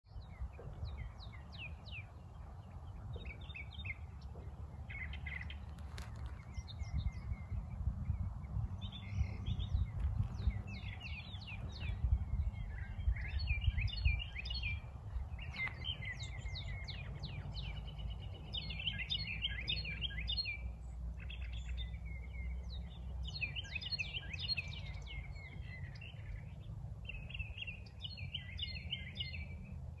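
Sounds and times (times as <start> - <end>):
low unsteady rumble: 0.1 - 30.0
songbirds chirping and trilling: 0.1 - 30.0.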